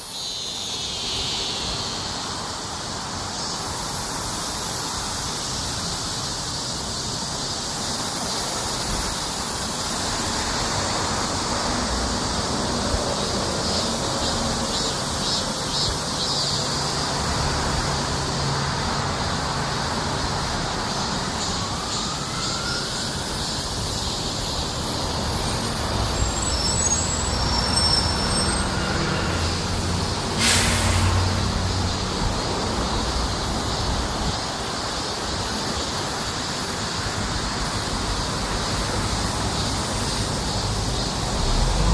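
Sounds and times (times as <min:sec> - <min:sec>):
cicadas buzzing: 0:00.0 - 0:41.9.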